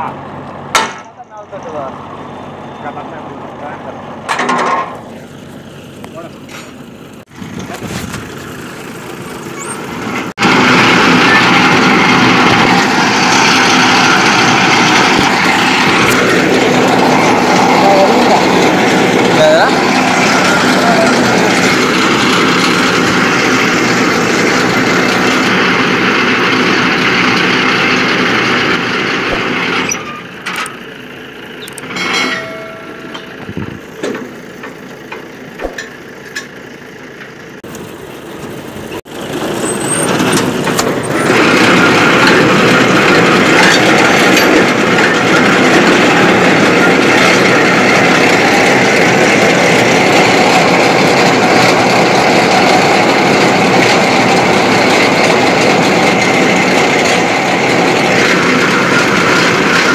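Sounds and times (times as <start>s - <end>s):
engine-like mechanical running: 0.0s - 59.9s.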